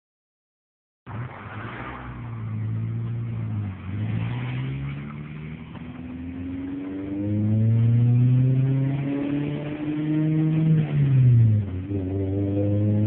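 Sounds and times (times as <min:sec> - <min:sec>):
car engine revving: 0:01.1 - 0:13.0.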